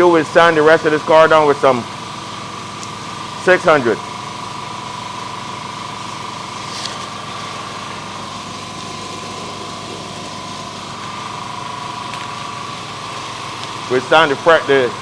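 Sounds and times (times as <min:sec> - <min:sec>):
mechanical drone with high hum: 0:00.0 - 0:15.0.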